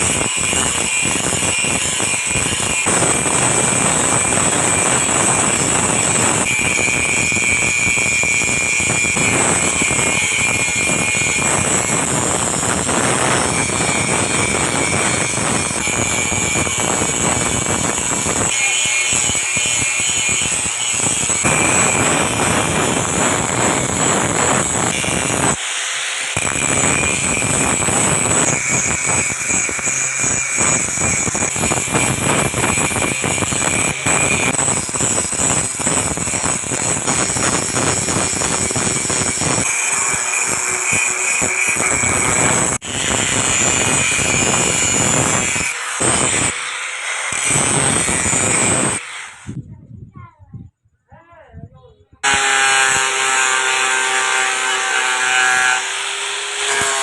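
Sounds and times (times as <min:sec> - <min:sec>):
grinder whining on steel: 0:00.0 - 0:49.6, 0:52.2 - 0:57.0.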